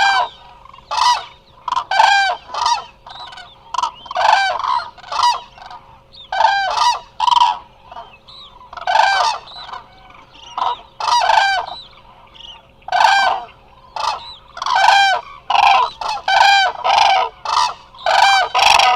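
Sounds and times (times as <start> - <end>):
cranes trumpeting calls: 0.0 - 18.9.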